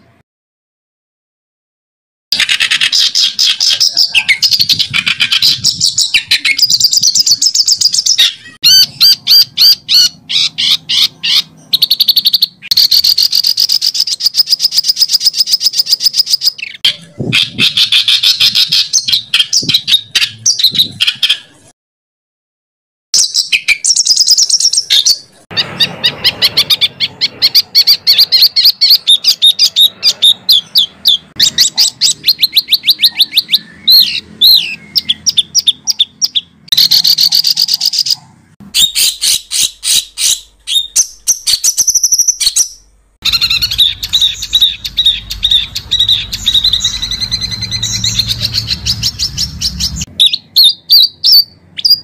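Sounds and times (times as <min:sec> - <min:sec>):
songbird trilling: 0:02.4 - 0:21.6, 0:23.2 - 0:52.0.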